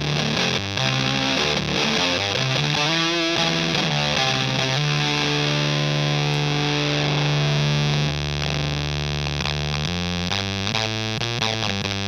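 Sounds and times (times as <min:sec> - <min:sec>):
distorted fuzz electric guitar: 0:00.0 - 0:12.0.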